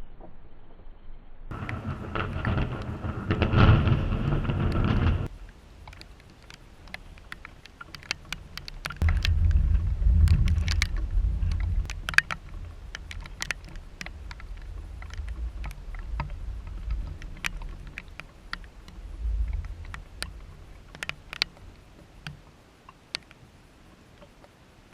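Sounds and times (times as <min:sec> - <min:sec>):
thunder rumbling: 0:01.5 - 0:22.3
raindrops ticking on hard surface: 0:01.5 - 0:24.9.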